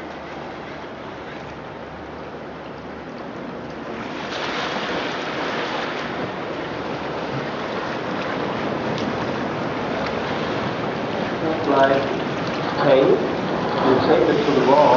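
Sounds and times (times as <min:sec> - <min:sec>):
ocean waves breaking: 0:00.0 - 0:14.9.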